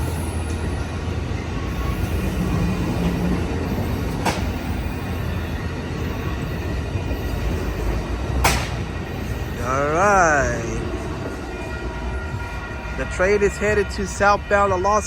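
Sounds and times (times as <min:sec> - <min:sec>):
passenger train rolling past: 0:00.0 - 0:15.0.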